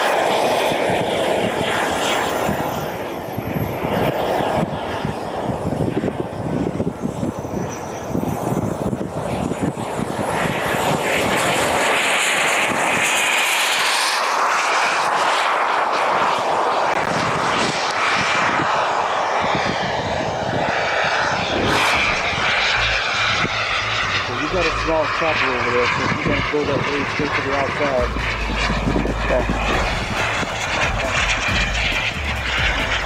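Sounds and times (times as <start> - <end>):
jet turbine roar and whine: 0.0 - 33.0.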